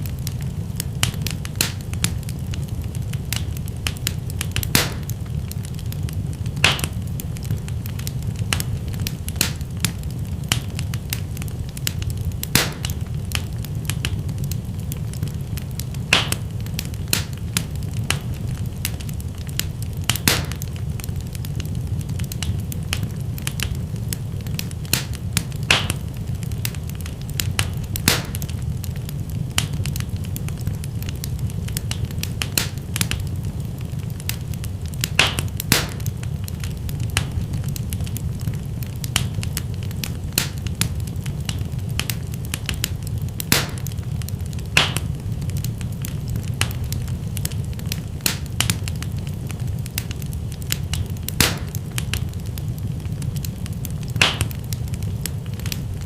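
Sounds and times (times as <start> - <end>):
fire crackling and popping: 0.0 - 56.0
wood fire rumbling: 0.0 - 56.0.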